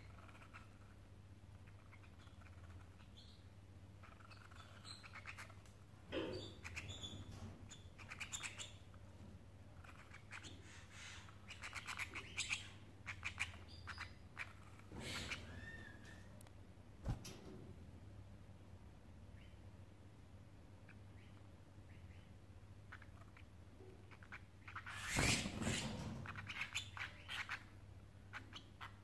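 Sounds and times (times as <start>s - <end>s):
canaries chirping: 0.0s - 9.0s, 9.8s - 16.4s, 20.9s - 29.0s.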